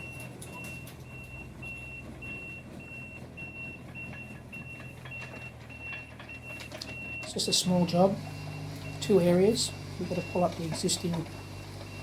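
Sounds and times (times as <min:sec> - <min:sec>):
diesel engine humming: 0:00.0 - 0:12.0
reversing alarm beeping: 0:00.0 - 0:12.0.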